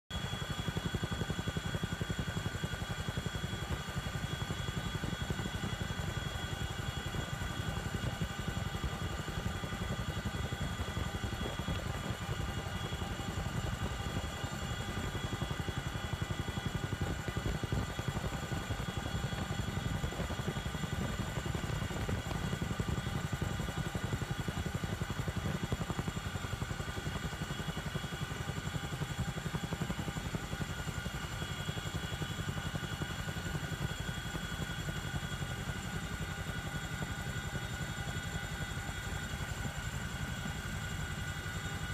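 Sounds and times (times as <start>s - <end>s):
helicopter rotor and engine rumble: 0.0s - 41.9s.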